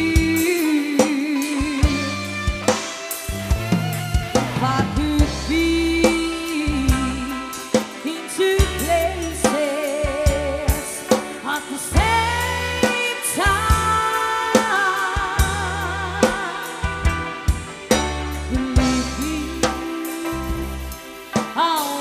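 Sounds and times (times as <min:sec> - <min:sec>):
bass: 0:00.0 - 0:21.7
drum kit: 0:00.0 - 0:22.0
held melody with vibrato: 0:00.3 - 0:21.3.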